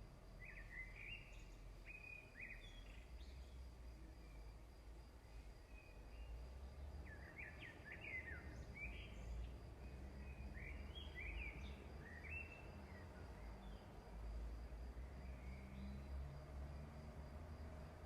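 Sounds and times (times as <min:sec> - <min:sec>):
faint bird chirps: 0:00.4 - 0:14.0, 0:15.0 - 0:16.2.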